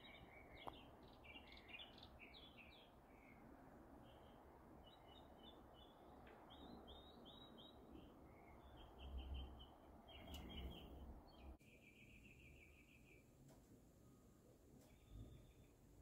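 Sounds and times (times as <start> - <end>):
small birds chirping: 0.0 - 13.6, 14.8 - 16.0.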